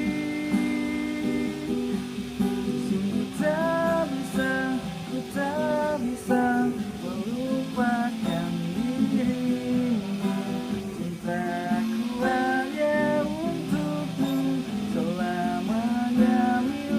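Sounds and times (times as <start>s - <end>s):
acoustic guitar strumming: 0.0s - 16.9s
person singing: 0.0s - 16.9s.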